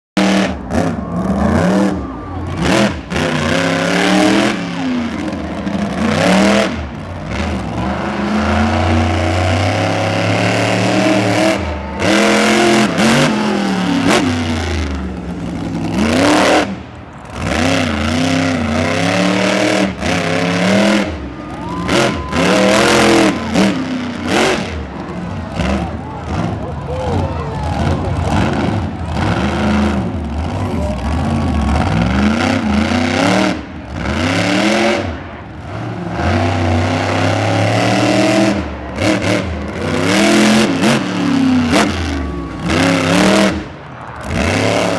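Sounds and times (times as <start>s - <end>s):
truck engine revving: 0.1s - 44.9s.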